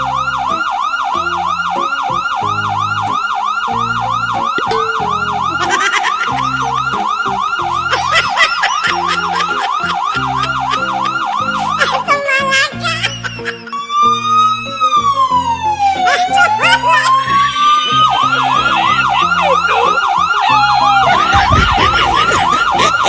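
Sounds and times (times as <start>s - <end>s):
police siren yelping: 0.0s - 23.0s.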